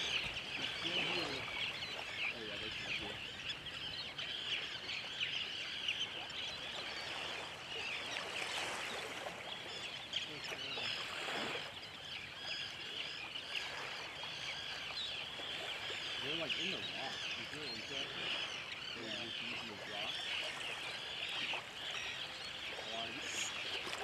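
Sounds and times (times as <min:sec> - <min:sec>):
surf and wind: 0:00.0 - 0:05.2, 0:05.8 - 0:24.0
seabirds calling: 0:00.0 - 0:24.0.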